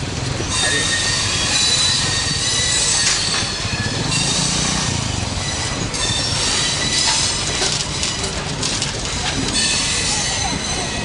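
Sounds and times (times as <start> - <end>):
rumble of rolling railway coaches: 0.0 - 11.0
train wheels squealing: 0.0 - 11.0.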